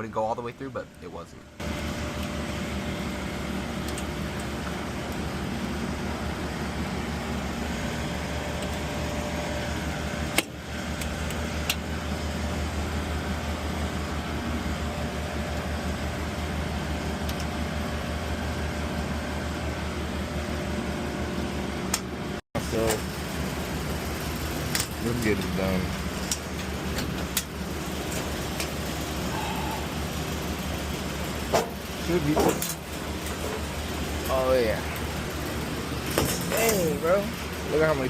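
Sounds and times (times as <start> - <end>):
air-handling equipment droning: 0.0 - 38.0.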